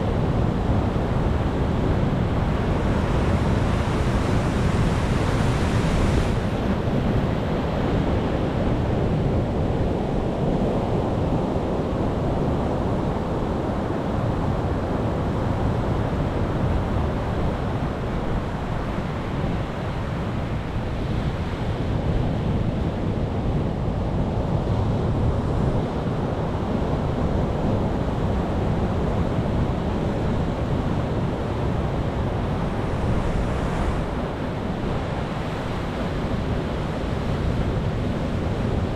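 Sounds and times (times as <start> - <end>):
sea waves surging ashore: 0.1 - 38.9.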